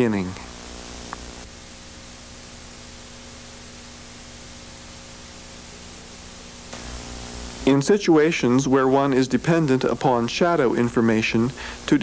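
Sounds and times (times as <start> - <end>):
tape hiss: 0.0 - 12.0.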